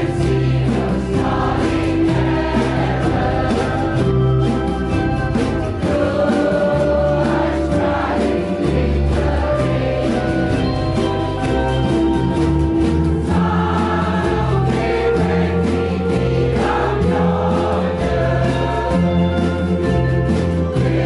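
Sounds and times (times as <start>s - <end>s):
group of voices singing: 0.0s - 12.2s, 13.1s - 21.0s
ukuleles strumming: 0.0s - 21.0s.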